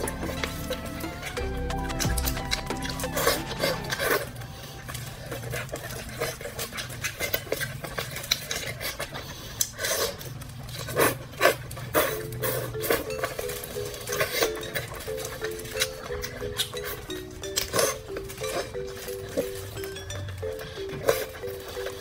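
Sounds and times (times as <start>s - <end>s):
wet chewing and lip-smacking: 0.0s - 22.0s.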